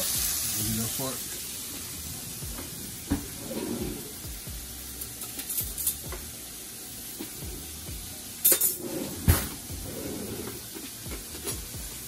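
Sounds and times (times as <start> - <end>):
shrimp sizzling in a skillet: 0.0 - 3.4, 4.0 - 12.0.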